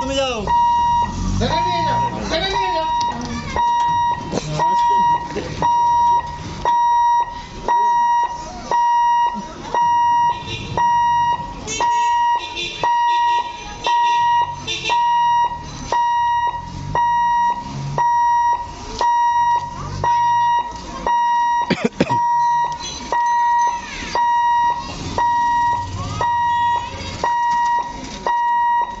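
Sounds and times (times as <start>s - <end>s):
level crossing warning beeps: 0.0s - 29.0s.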